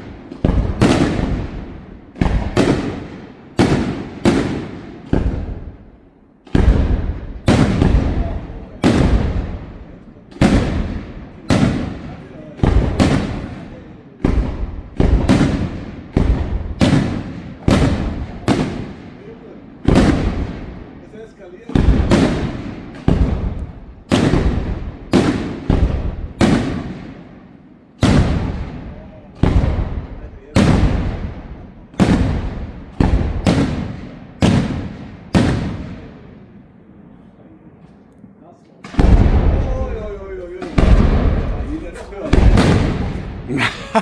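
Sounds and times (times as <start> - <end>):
fireworks bangs with rumbling echo: 0.0 - 38.0, 38.8 - 44.0.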